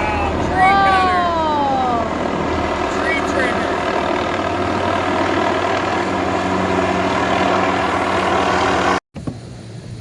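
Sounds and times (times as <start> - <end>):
helicopter rotor and engine: 0.0 - 10.0.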